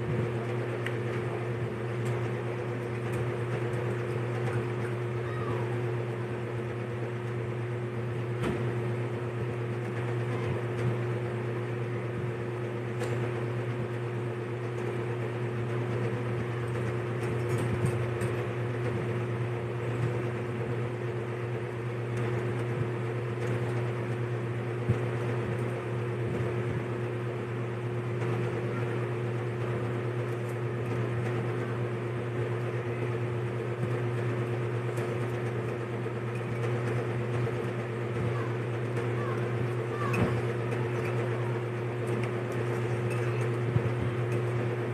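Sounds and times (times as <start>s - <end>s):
machine hum: 0.0s - 44.9s.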